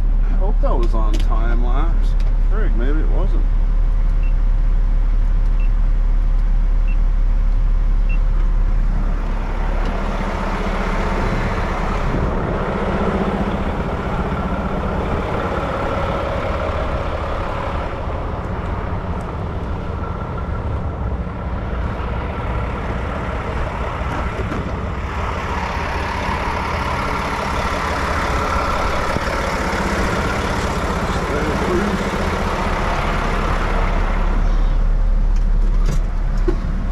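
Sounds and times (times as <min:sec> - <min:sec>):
diesel truck engine running: 0:00.0 - 0:36.9.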